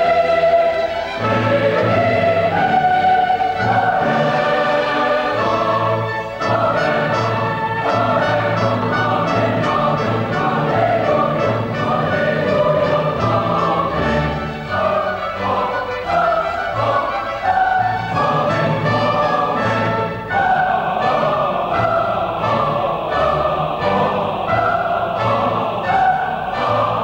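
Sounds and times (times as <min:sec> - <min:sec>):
boys' choir singing: 0:00.0 - 0:27.0
orchestral accompaniment: 0:00.0 - 0:27.0.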